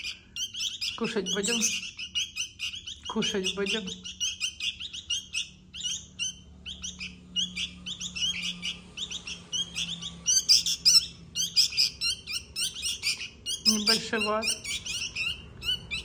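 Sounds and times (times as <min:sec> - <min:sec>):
chicks giving begging chirps: 0:00.0 - 0:16.0.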